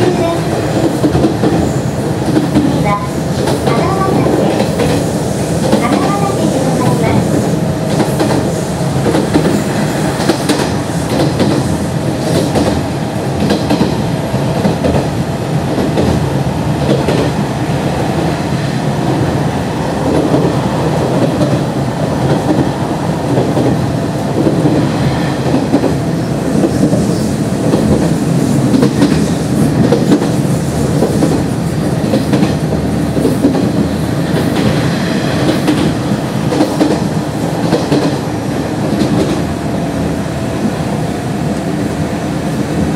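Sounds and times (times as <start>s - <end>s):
clickety-clack of rail joints: 0.0s - 19.2s, 20.0s - 39.6s
train wheels rumbling on rail: 0.0s - 42.9s.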